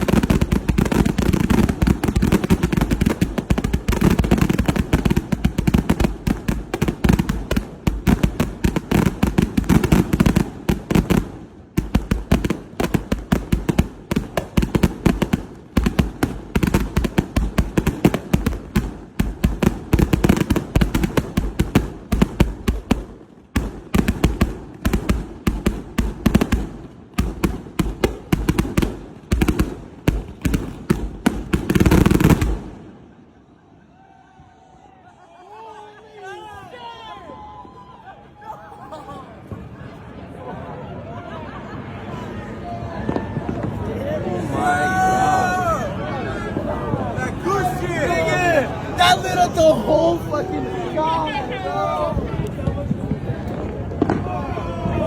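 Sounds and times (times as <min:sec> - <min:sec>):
fireworks bangs and crackling: 0:00.0 - 0:33.4, 0:42.4 - 0:55.0.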